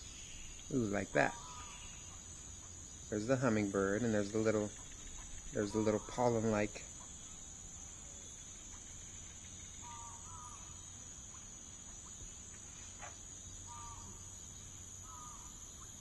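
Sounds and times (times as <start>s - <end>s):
faint high-pitched hiss: 0.0s - 16.0s.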